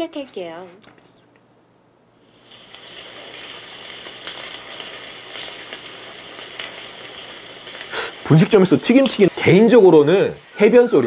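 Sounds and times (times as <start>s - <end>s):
recorded rain hiss: 0.0s - 11.0s.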